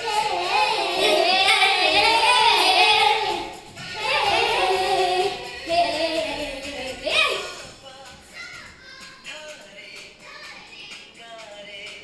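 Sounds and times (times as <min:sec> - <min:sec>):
child singing: 0:00.0 - 0:11.4.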